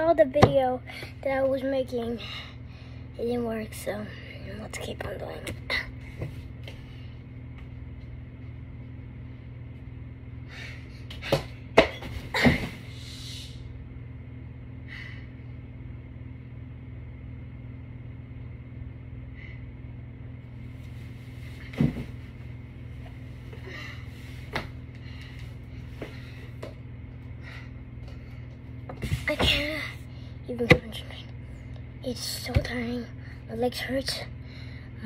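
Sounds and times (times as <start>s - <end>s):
ceiling fan humming: 0.0s - 35.0s.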